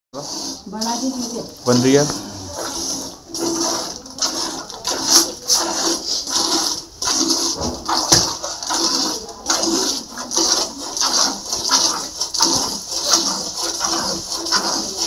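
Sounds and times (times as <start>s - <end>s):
milk squirting into steel pail: 0.2s - 15.0s.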